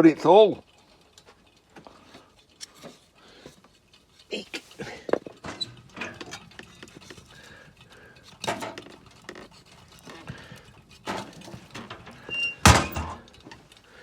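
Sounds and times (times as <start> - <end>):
firewood logs clattering: 0.7 - 14.0.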